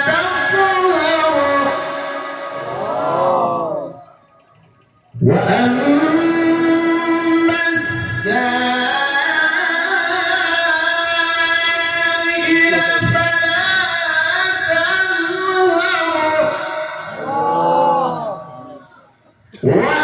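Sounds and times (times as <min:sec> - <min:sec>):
man chanting melodically: 0:00.0 - 0:20.0.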